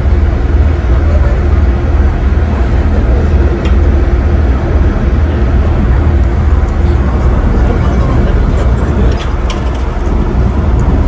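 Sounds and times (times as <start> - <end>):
faint constant hum: 0.0 - 11.0
ferry engine rumble: 0.0 - 11.0.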